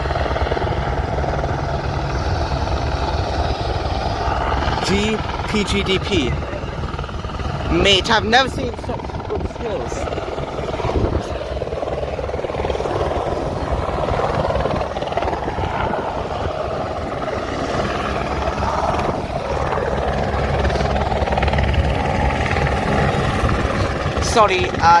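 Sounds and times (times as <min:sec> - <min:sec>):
helicopter hovering: 0:00.0 - 0:25.0.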